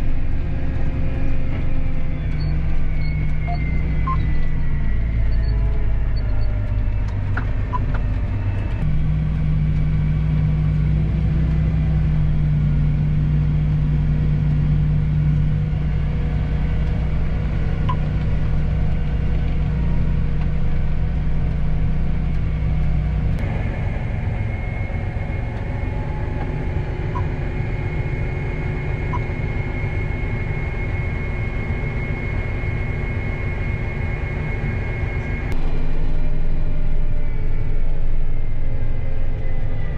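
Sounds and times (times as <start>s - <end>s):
machinery engine droning and whining: 0.0s - 39.9s.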